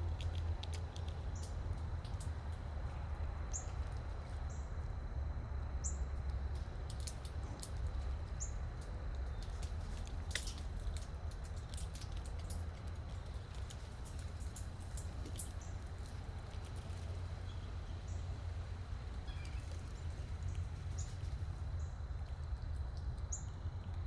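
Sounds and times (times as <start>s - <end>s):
animals feeding clicks and crunches: 0.0s - 24.0s
steady low rumble: 0.0s - 24.0s.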